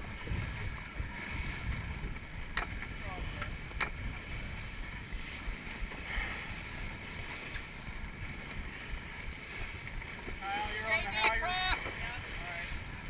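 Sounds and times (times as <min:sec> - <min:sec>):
water rushing along canoe hull: 0:00.0 - 0:13.0
wind buffeting microphone: 0:00.0 - 0:13.0.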